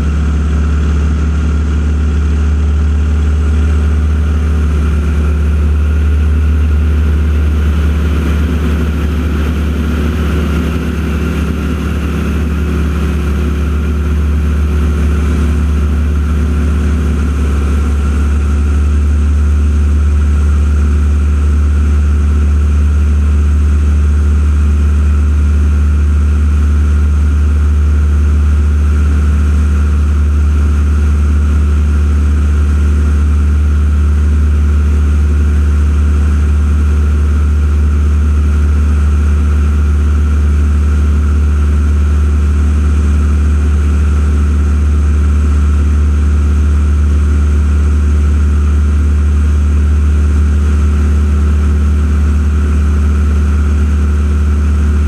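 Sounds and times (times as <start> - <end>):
loud engine drone: 0.0 - 55.0.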